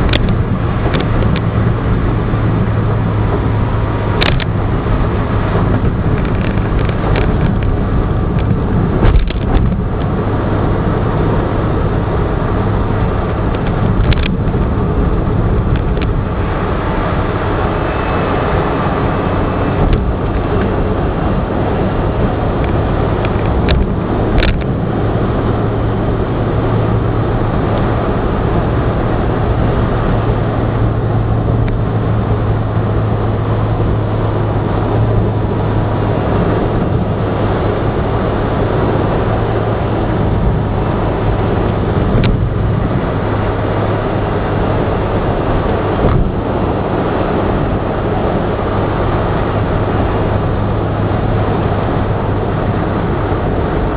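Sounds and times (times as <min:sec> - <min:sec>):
car interior road noise: 0:00.0 - 0:53.9.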